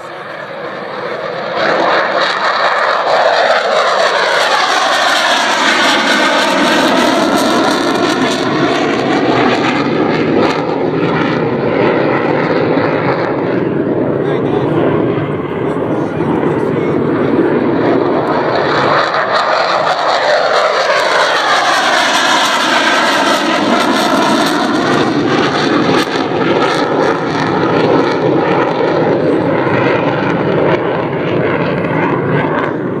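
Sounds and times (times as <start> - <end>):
jet aircraft taking off: 0.0 - 33.0.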